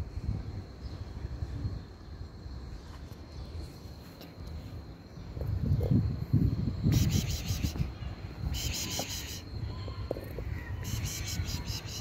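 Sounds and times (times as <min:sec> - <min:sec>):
insect pulsed trills: 0:00.0 - 0:12.0.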